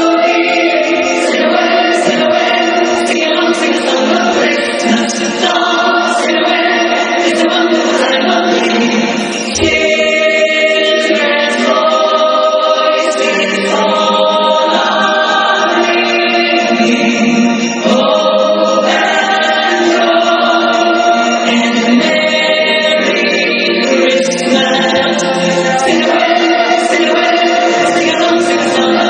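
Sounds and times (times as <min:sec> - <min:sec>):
choir singing held chords: 0:00.0 - 0:29.0.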